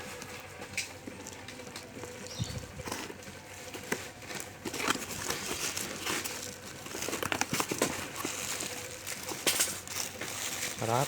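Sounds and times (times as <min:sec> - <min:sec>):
plastic packaging crinkling: 0:01.2 - 0:11.0.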